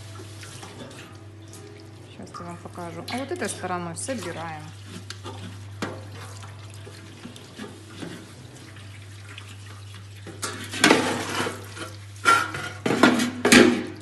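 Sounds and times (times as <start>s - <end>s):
low steady hum: 0.0s - 14.0s
tap water splashing into sink: 0.0s - 14.0s.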